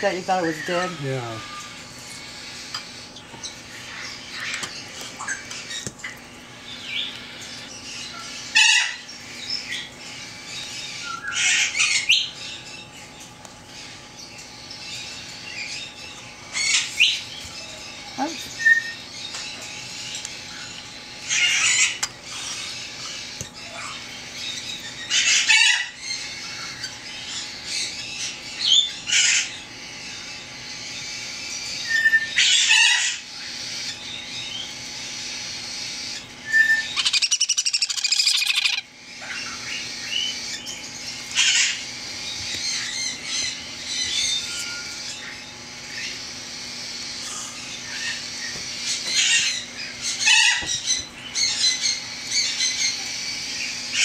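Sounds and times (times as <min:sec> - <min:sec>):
parrot chicks raspy calls: 0:00.0 - 0:54.0.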